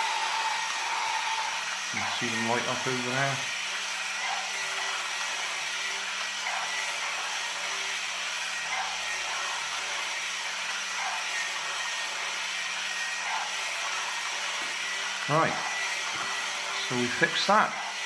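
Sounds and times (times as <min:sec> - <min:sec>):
small motor mechanism whirring: 0:00.0 - 0:18.0.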